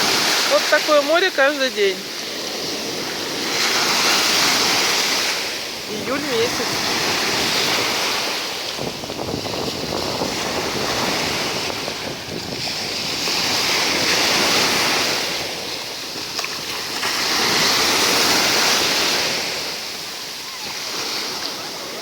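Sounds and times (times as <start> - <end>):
surf washing onto shore: 0.0 - 22.0
wind buffeting microphone: 0.0 - 22.0.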